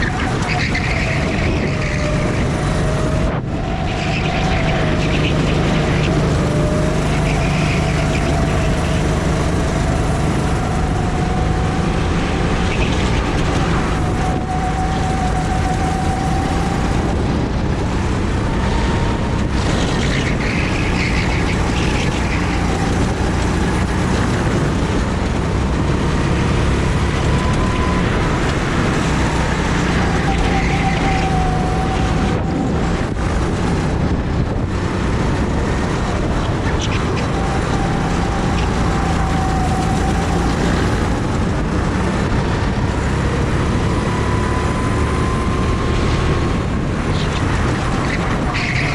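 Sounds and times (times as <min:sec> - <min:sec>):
constant rushing noise: 0:00.0 - 0:48.9
loud engine hum: 0:00.0 - 0:48.9.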